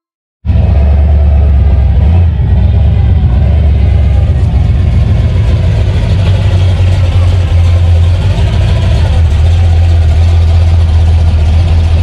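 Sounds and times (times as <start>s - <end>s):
car engine running: 0.5s - 12.0s.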